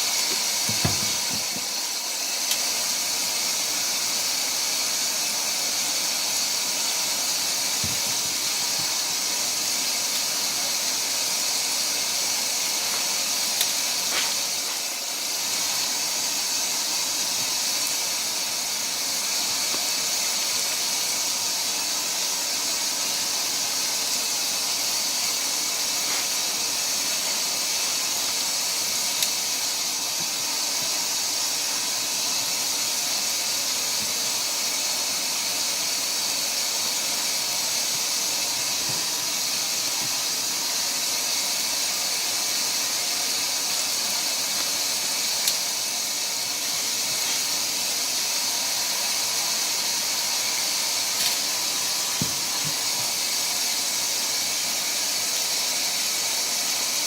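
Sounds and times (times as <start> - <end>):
water rushing into washing machine: 0.0 - 57.0.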